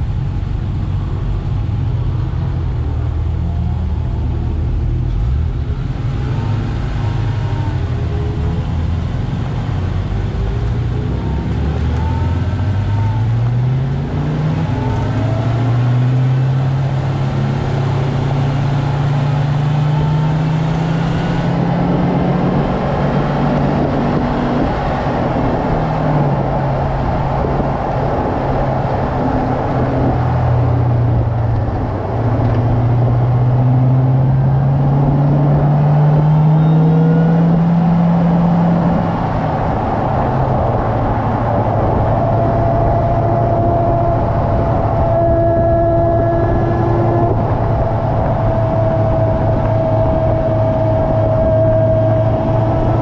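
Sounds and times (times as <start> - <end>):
road and wind noise: 0.0 - 53.0.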